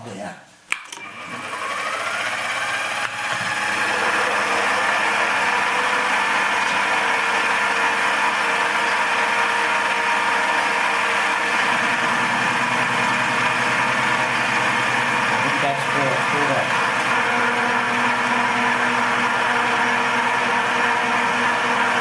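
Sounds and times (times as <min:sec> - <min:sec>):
milling machine spindle whine: 0:01.0 - 0:22.0.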